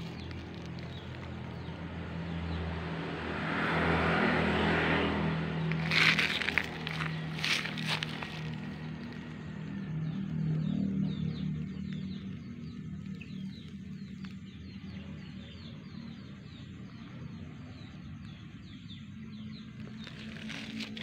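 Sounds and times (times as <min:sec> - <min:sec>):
small birds chirping: 0:00.0 - 0:02.7, 0:05.6 - 0:21.0.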